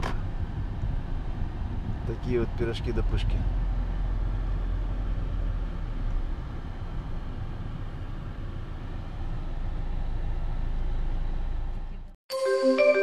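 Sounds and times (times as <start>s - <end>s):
car engine and road rumble: 0.0s - 12.2s.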